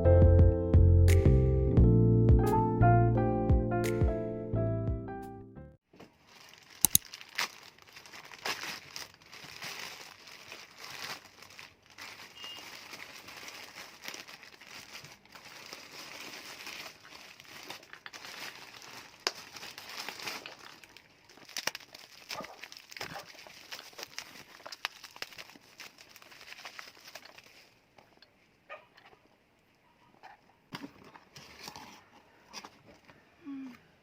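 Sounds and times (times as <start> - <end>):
faint crinkling and crackling: 5.9 - 33.8.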